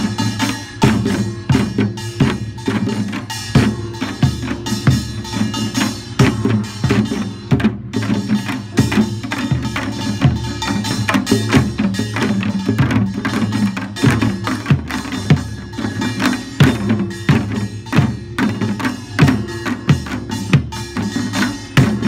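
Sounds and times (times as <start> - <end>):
drums struck in fast rhythm: 0.0 - 22.0
ringing metal gongs: 0.0 - 22.0.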